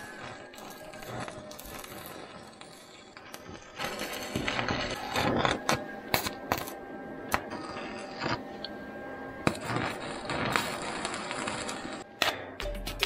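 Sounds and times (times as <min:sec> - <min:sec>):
arc welder crackling and sizzling: 0:00.0 - 0:08.7, 0:09.3 - 0:12.4.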